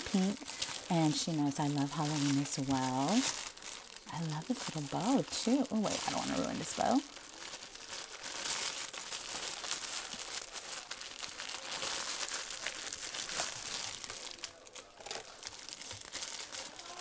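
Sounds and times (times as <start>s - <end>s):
cellophane bag crinkling: 0.0s - 17.0s.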